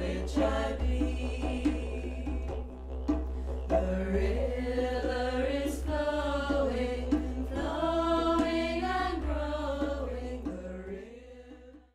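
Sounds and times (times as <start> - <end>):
steady low drone: 0.0 - 11.0
meditative chanting voices: 0.0 - 11.9.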